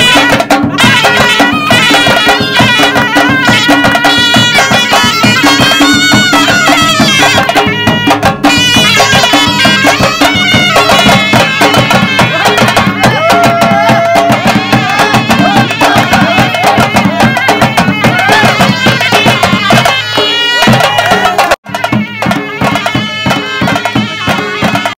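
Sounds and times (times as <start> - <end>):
drums keeping steady beat: 0.0 - 25.0.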